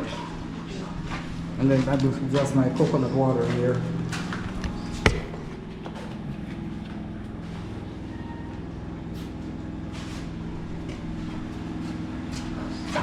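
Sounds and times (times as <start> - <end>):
machine droning: 0.0 - 13.0.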